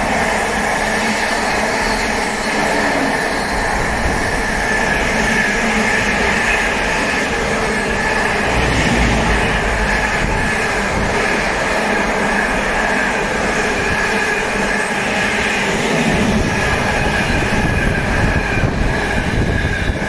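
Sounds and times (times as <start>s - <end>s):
freight train rolling past: 0.0s - 20.0s.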